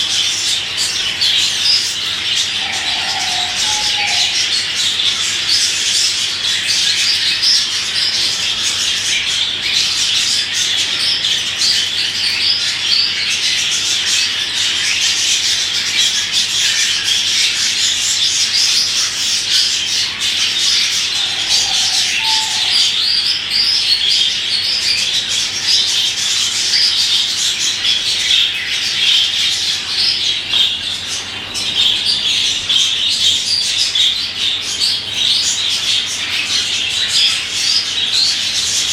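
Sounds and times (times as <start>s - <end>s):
budgerigar warbling and chattering: 0.0s - 38.9s.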